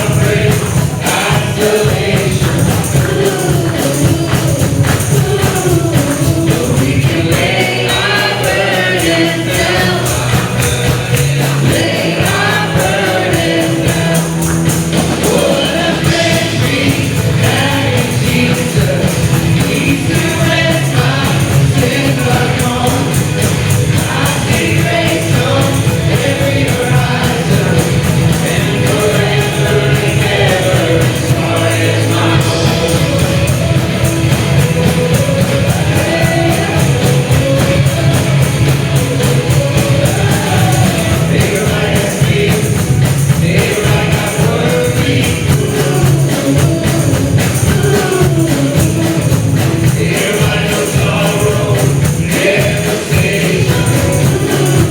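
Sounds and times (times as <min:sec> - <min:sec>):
band with steady beat: 0:00.0 - 0:54.9
congregation singing a hymn: 0:00.0 - 0:54.9
tambourine: 0:00.0 - 0:54.9.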